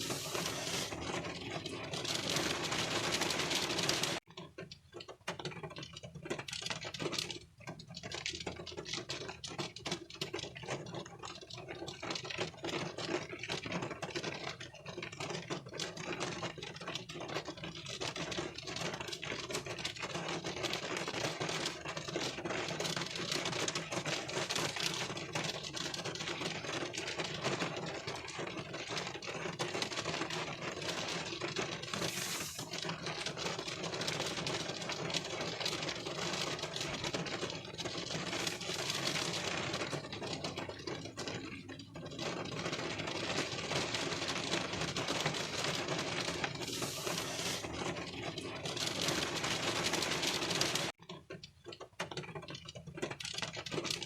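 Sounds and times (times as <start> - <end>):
rain on car windshield: 0.0 - 51.0, 51.7 - 54.0.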